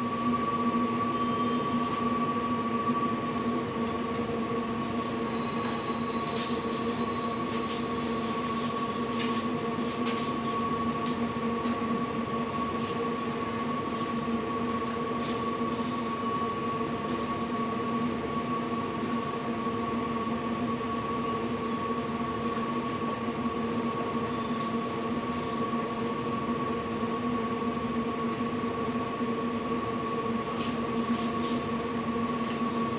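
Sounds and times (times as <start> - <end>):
steady machine hum: 0.0 - 32.9.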